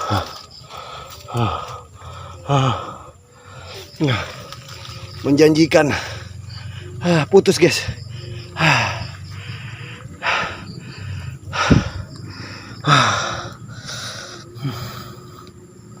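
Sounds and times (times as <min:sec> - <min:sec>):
man breathing heavily: 0:00.0 - 0:05.0, 0:05.7 - 0:16.0.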